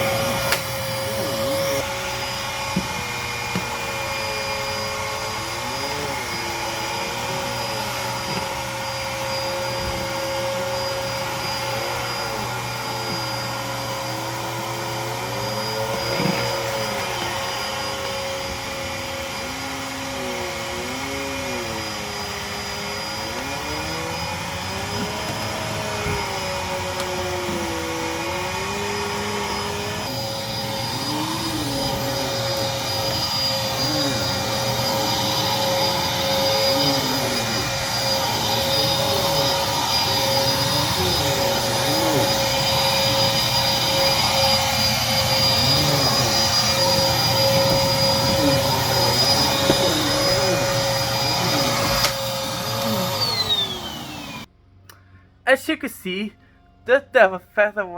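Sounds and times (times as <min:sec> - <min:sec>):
vacuum cleaner running: 0:00.0 - 0:54.5.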